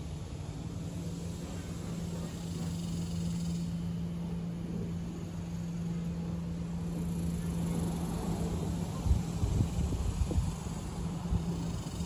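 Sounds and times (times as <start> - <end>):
low wind rumble: 0.0 - 12.0
steady low hum: 0.0 - 12.0
wind through leaves: 0.0 - 12.0.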